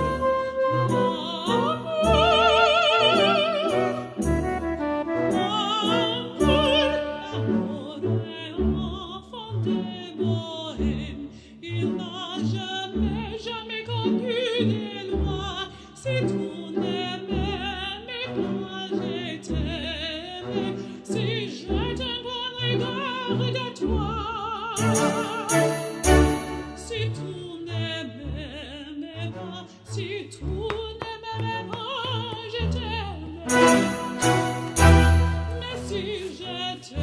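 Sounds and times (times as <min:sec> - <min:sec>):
operatic singing with orchestra: 0:00.0 - 0:37.0.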